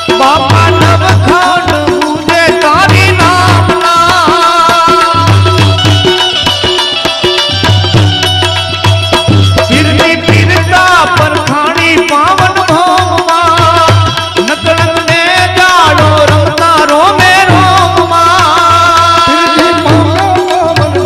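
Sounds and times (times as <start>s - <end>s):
tabla rhythm: 0.0s - 21.0s.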